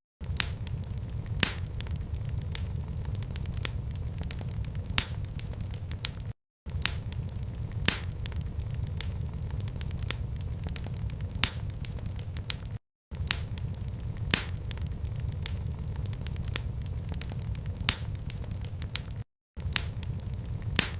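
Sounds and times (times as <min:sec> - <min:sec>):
sharp fire pops: 0:00.2 - 0:20.9
wood fire crackling: 0:00.2 - 0:20.9.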